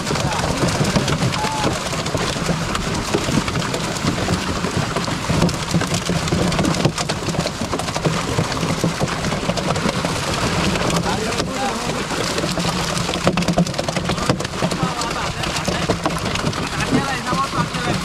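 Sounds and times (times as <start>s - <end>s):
water splashing and churning: 0.0s - 18.0s.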